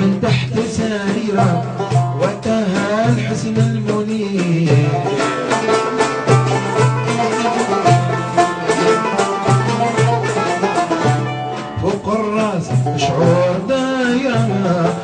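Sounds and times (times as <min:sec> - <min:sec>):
oud and banjos plucking: 0:00.0 - 0:15.0.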